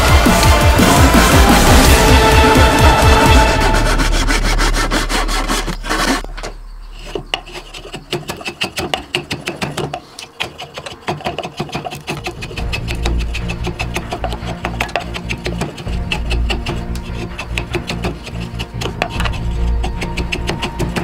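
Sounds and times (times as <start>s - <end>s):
handsaw cutting wood: 0.0s - 6.3s, 7.0s - 21.0s
file scraping wood: 2.6s - 21.0s.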